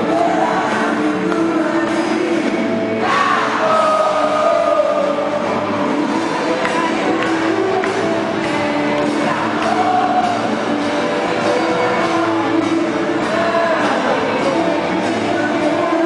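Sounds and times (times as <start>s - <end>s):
amplified guitars: 0.0s - 16.0s
person singing: 0.0s - 16.0s.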